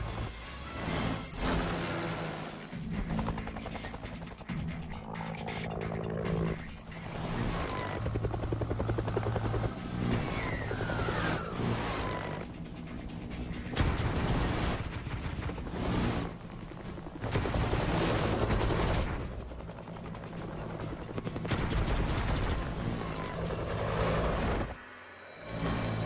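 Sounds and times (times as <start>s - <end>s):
helicopter rotor chopping: 0.8s - 24.8s.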